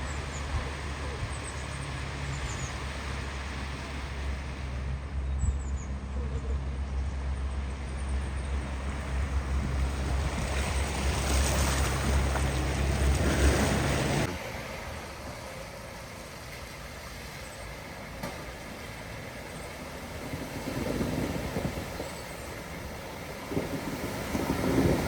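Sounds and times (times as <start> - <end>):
water rushing: 0.0 - 5.0, 8.6 - 25.0
vehicle engine hum: 0.0 - 25.0.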